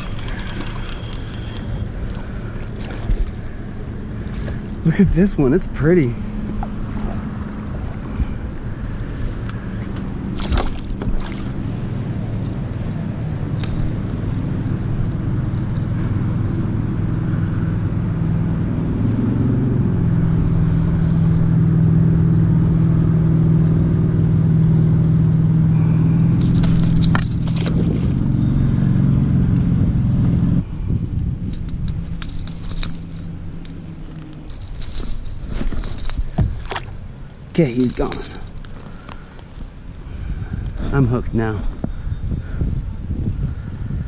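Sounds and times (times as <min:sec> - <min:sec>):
motorboat engine droning: 0:00.0 - 0:44.0.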